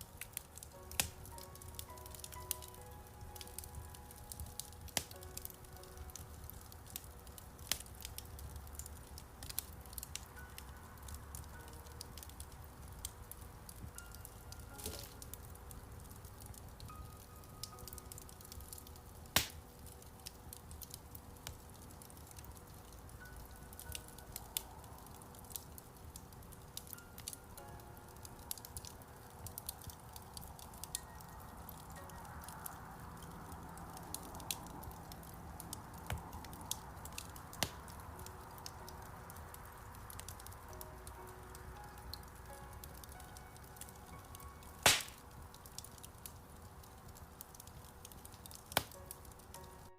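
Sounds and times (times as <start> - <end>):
loud snaps of fire: 0.0 - 49.9
low rumble of flames: 0.0 - 49.9
wood fire crackling: 0.0 - 49.9.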